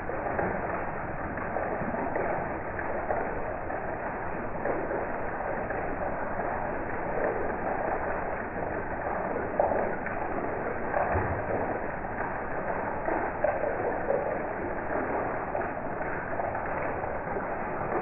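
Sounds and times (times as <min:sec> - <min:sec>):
heavy rain falling: 0:00.0 - 0:18.0
water streaming off roof: 0:00.0 - 0:18.0.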